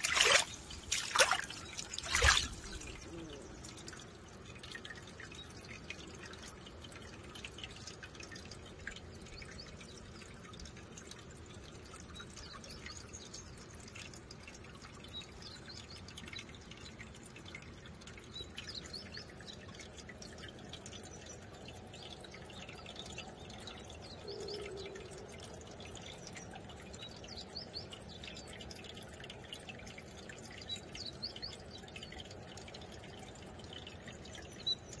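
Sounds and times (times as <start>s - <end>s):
stream trickling over rock: 0.0s - 35.0s
water drips and plops: 0.0s - 35.0s.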